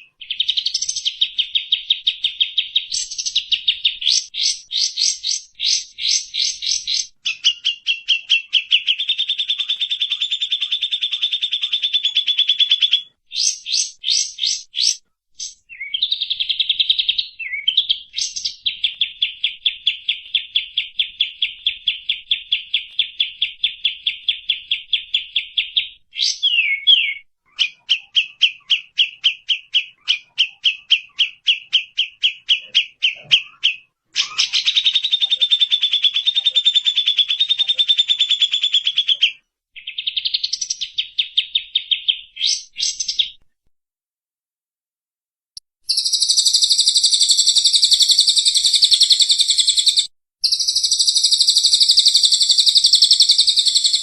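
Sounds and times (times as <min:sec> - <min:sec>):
buzzy bird trill: 0:00.0 - 0:43.4, 0:45.9 - 0:54.0
high rapid bird chatter: 0:00.0 - 0:43.4, 0:45.9 - 0:54.0
songbird chirping trills: 0:00.0 - 0:43.4, 0:45.6 - 0:54.0.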